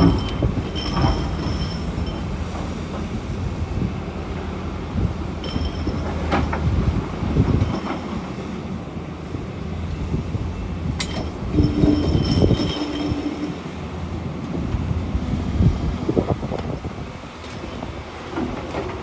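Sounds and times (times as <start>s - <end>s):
excavator engine under load: 0.0s - 19.0s.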